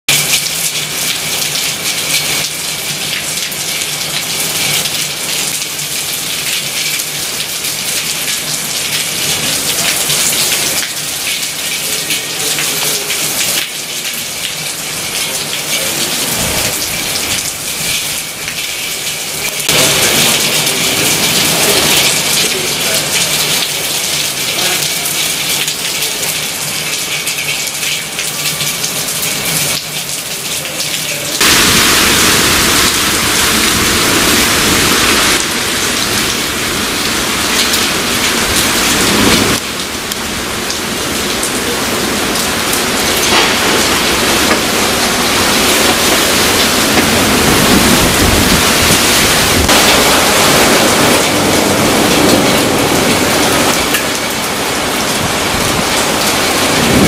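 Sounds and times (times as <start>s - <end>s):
heavy rain pouring: 0.1s - 57.0s.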